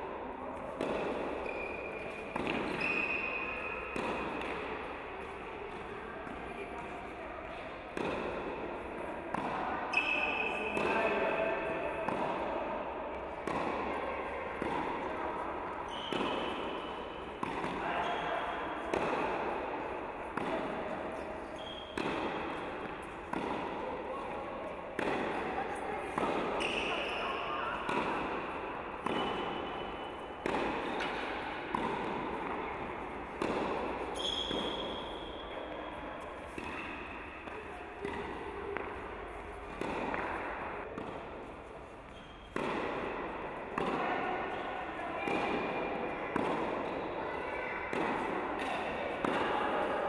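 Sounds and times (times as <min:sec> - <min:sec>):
tennis rackets striking ball: 0:00.6 - 0:07.0, 0:07.9 - 0:47.1, 0:47.9 - 0:50.0.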